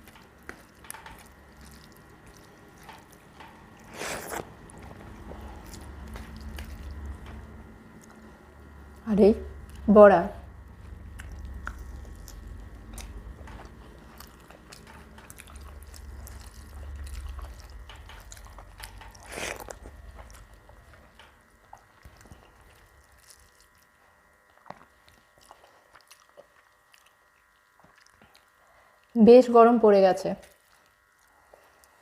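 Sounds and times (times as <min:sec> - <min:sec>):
chewing and biting food: 0:00.0 - 0:08.3, 0:10.6 - 0:29.2, 0:30.4 - 0:32.0.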